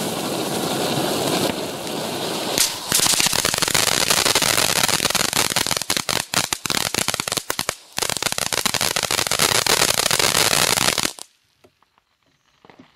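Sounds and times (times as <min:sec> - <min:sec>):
firework spraying hiss: 0:00.0 - 0:11.3
firework fountain crackling: 0:00.0 - 0:11.4.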